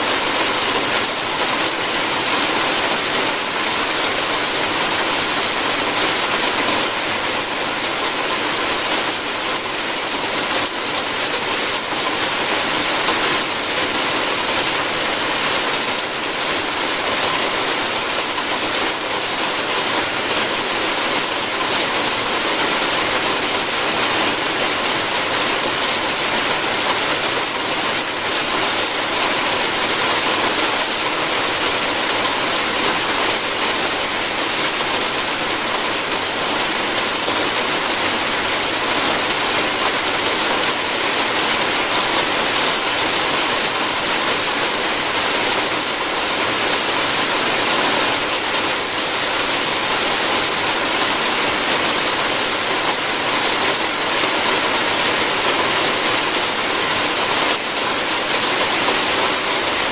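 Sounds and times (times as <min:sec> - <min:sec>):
rain pattering on a roof: 0:00.0 - 0:59.9.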